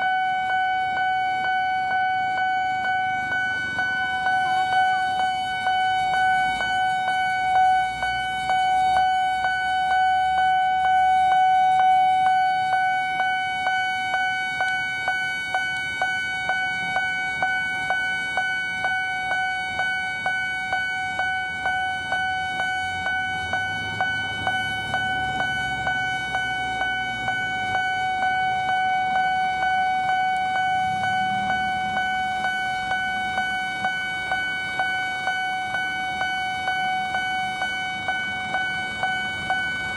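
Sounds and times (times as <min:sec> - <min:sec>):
level crossing bell ringing: 0:00.0 - 0:39.9
road traffic rumbling: 0:00.0 - 0:39.9.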